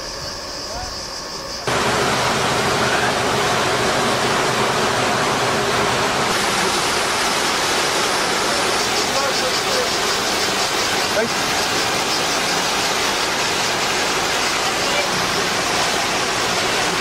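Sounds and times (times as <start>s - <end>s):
water rushing along boat hull: 1.7s - 17.0s.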